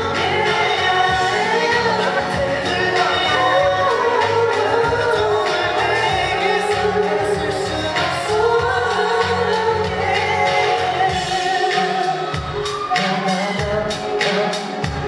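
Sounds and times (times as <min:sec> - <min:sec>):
man singing into microphone: 0:00.0 - 0:15.0
pop backing music: 0:00.0 - 0:15.0.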